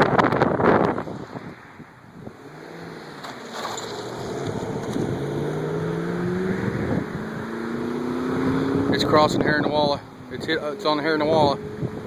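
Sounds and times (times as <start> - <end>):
wind noise: 0.0 - 12.0
vehicle engine speeding up: 0.1 - 12.0.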